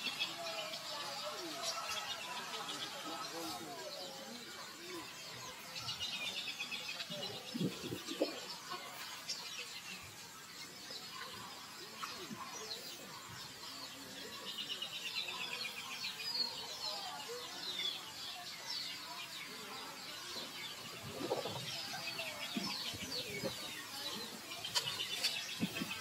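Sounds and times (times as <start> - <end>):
birds chirping trills: 0.0 - 26.0.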